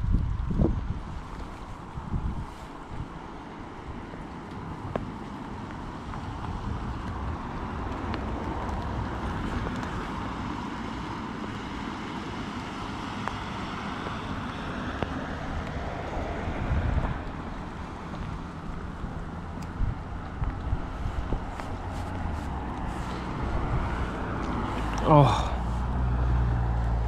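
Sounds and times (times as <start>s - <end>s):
wind buffeting microphone: 0.0s - 11.8s, 13.3s - 27.0s.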